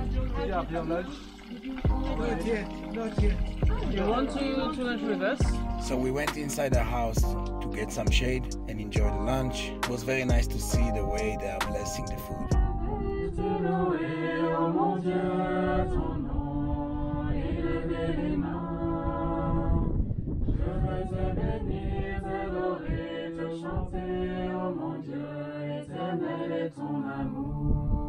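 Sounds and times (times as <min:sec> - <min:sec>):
group of voices singing: 0:00.0 - 0:28.0.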